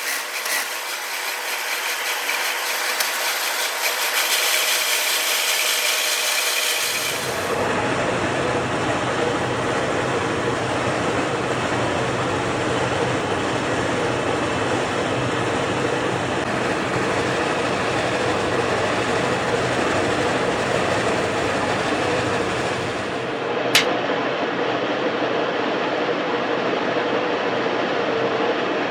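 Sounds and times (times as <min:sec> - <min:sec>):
lathe running with constant hum: 0:00.0 - 0:23.9.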